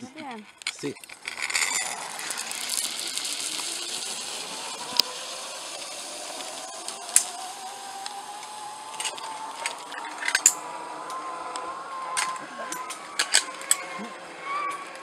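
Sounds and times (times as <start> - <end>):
zip line pulley whine: 0.0 - 15.0.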